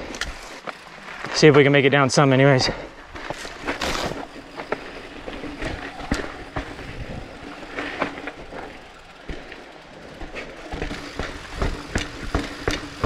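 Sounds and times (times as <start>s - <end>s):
bike rattling clicks and knocks: 0.0s - 13.0s.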